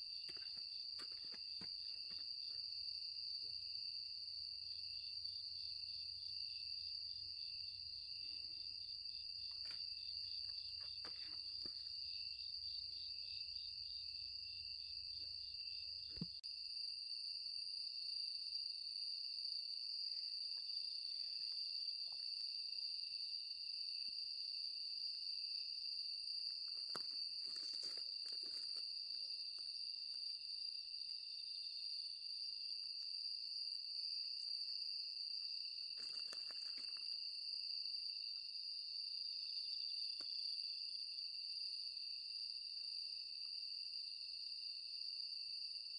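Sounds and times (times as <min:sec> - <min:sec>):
crickets and katydids trilling: 0:00.0 - 0:45.9
pulsing insect chirp: 0:00.0 - 0:45.9.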